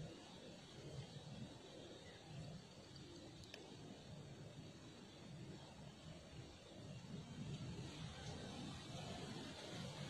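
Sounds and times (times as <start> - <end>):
faint low background noise: 0.0 - 10.0.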